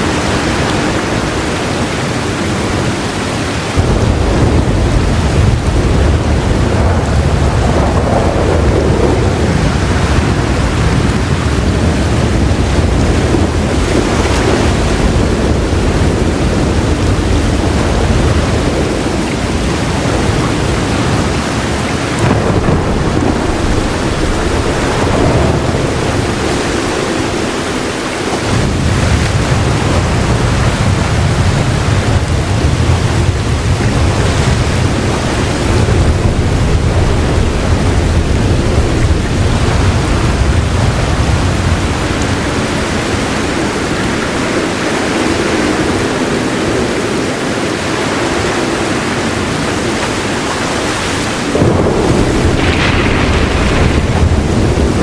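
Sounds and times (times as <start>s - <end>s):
heavy rain falling: 0.0s - 55.0s
rolling thunder rumble: 0.0s - 55.0s.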